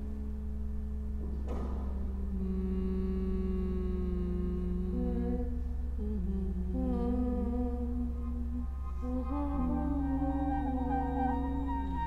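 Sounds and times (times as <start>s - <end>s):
slow drone music: 0.0s - 12.0s
steady low hum: 0.0s - 12.0s.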